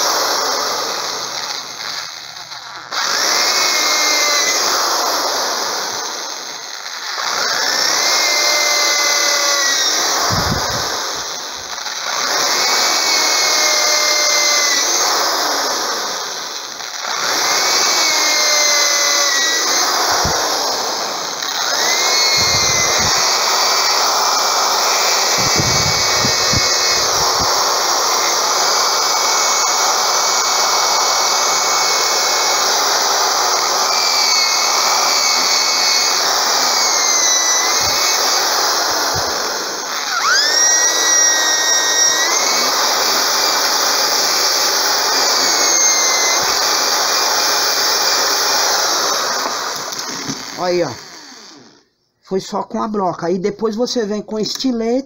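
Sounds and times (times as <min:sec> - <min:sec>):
electric drill boring wood: 0:00.0 - 0:51.9.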